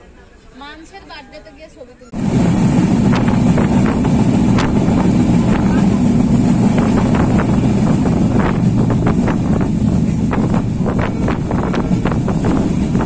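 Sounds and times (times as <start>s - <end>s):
wind buffeting microphone: 2.1s - 13.0s
train wheels rumbling: 2.2s - 13.0s.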